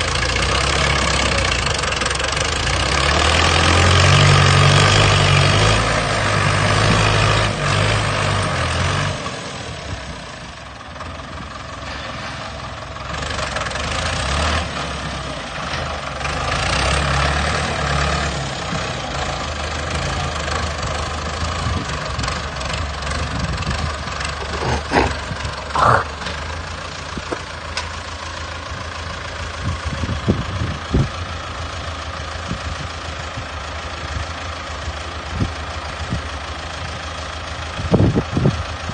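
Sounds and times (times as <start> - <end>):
heavy machine engine running: 0.0 - 38.9.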